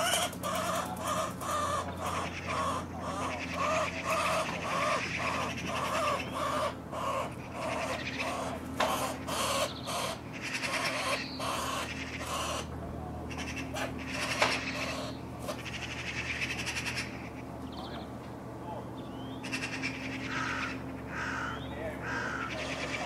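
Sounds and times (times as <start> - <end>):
magpie harsh distress calls: 0.0 - 12.7, 13.3 - 18.0, 19.2 - 23.0.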